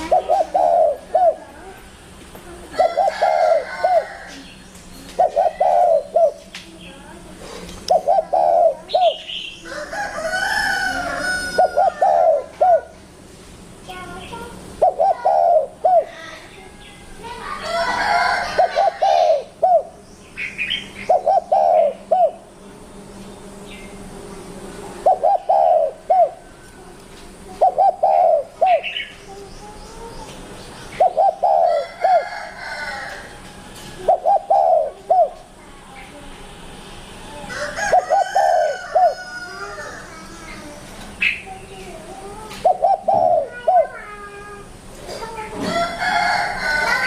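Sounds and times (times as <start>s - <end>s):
dove cooing: 0.0s - 1.8s, 2.6s - 6.5s, 7.4s - 13.0s, 14.6s - 20.0s, 20.6s - 22.8s, 24.1s - 30.1s, 30.9s - 35.8s, 37.2s - 47.0s.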